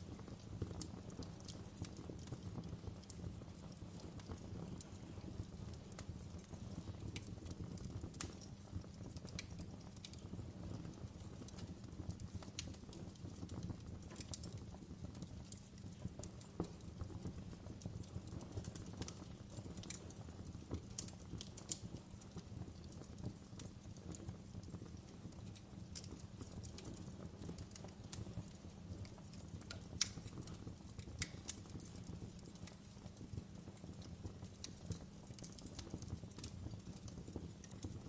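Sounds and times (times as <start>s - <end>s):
low rumble of flames: 0.0s - 38.0s
wood fire crackling and popping: 0.0s - 38.0s.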